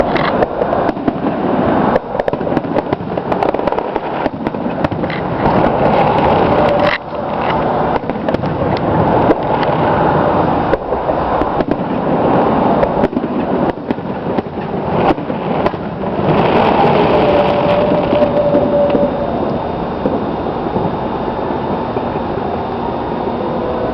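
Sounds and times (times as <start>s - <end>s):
fireworks bangs and crackle: 0.0s - 23.2s.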